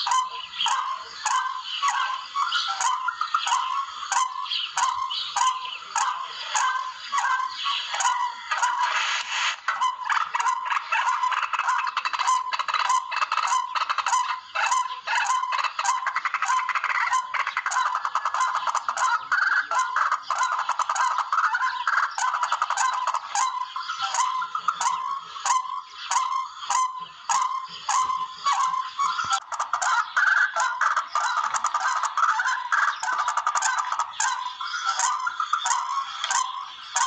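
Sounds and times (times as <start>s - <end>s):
harsh rapid bird calls: 0.0s - 37.0s.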